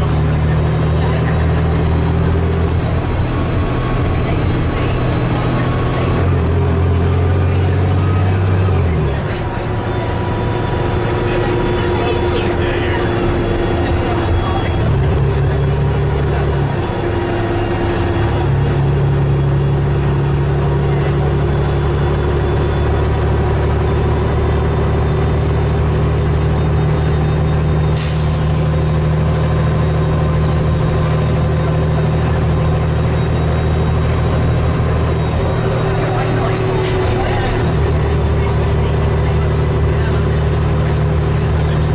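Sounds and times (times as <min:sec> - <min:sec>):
diesel bus engine running: 0:00.0 - 0:41.9.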